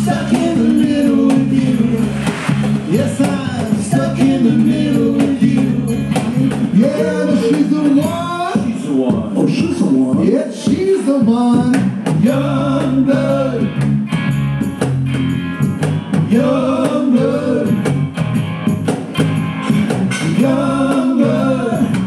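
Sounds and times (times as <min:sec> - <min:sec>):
guitars strumming: 0:00.0 - 0:08.8, 0:11.6 - 0:22.0
people singing: 0:00.0 - 0:13.9, 0:16.1 - 0:18.1, 0:19.9 - 0:22.0.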